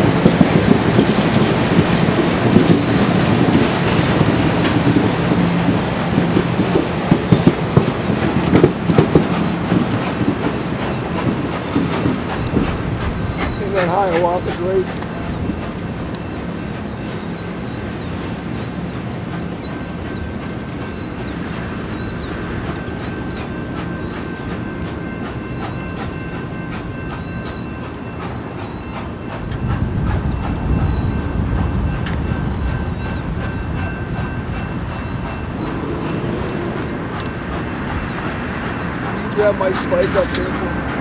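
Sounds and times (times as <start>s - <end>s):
train wheels clicking over rail joints: 0.0s - 41.0s.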